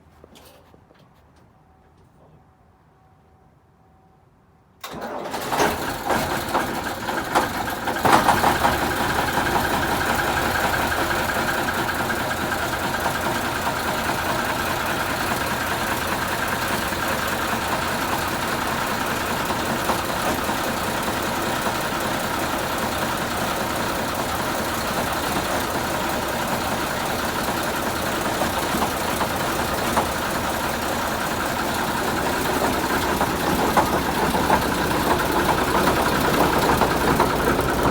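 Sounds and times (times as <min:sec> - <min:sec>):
diesel engine cranking and idling: 0:04.8 - 0:37.9.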